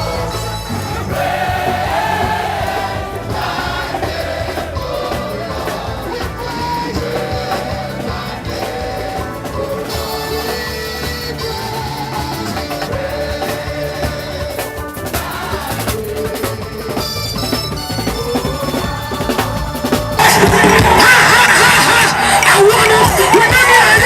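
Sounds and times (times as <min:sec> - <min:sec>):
band accompaniment: 0:00.0 - 0:24.0
gospel choir singing: 0:00.0 - 0:24.0.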